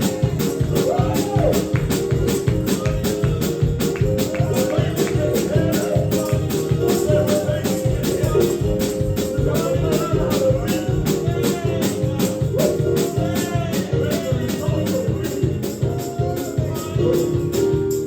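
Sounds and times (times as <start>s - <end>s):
fast percussion beat: 0.0s - 18.0s
held chords: 0.0s - 18.0s
voices singing: 0.0s - 18.0s.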